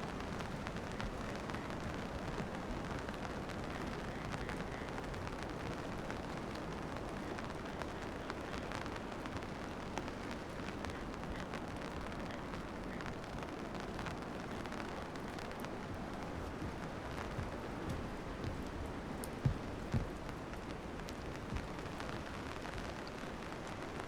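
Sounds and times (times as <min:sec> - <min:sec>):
low rain rumble: 0:00.0 - 0:24.0
rain drops ticking: 0:00.0 - 0:24.0.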